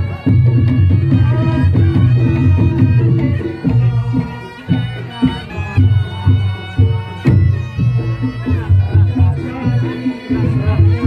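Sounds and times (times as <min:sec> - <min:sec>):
drum strokes: 0:00.0 - 0:11.0
shawm droning melody: 0:00.0 - 0:11.0.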